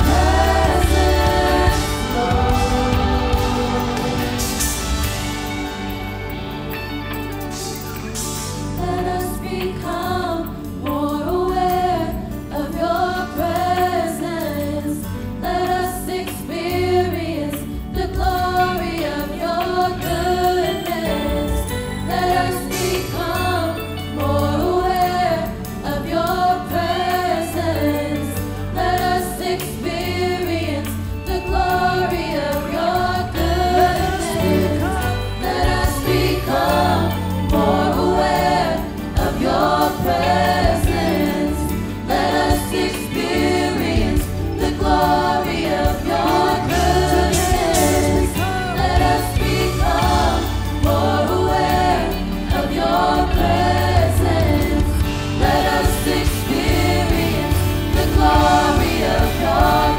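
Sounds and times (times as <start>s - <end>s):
acoustic guitar: 0.0s - 59.9s
group of people singing: 0.0s - 59.9s
live band: 0.0s - 59.9s.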